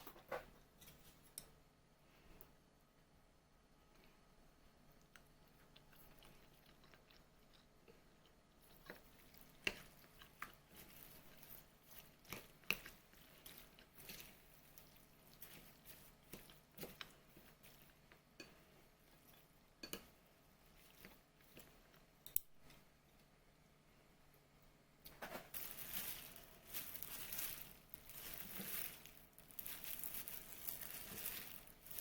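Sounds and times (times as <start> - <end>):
soft chewing: 3.8 - 23.4, 25.0 - 32.0.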